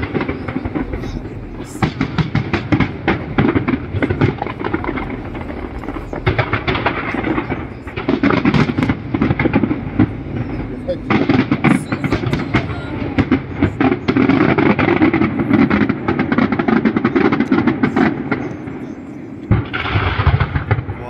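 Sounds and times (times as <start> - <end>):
fireworks bangs and crackles: 0.0 - 21.0
onlookers' voices: 0.0 - 21.0
steady rumble: 0.0 - 21.0.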